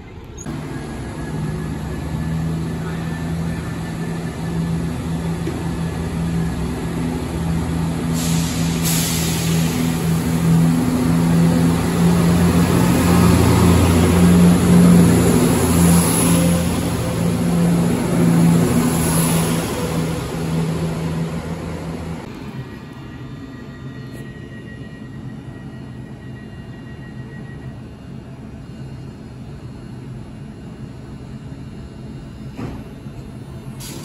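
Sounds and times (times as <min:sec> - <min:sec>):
train engines humming: 0:00.0 - 0:34.0.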